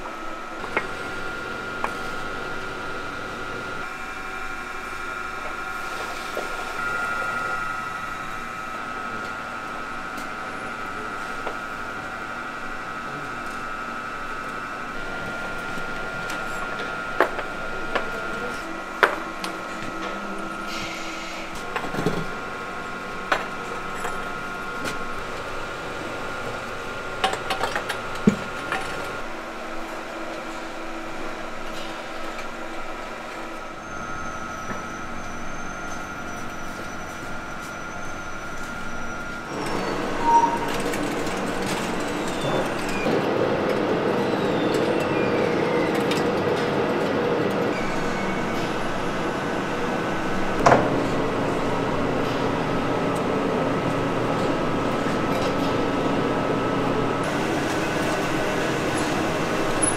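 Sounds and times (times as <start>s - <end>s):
factory hum with high whine: 0.0s - 59.9s.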